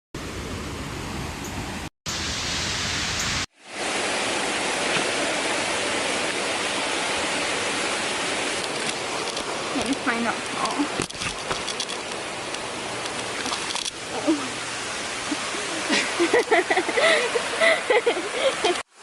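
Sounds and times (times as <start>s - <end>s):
waterfall rushing: 2.1s - 19.0s.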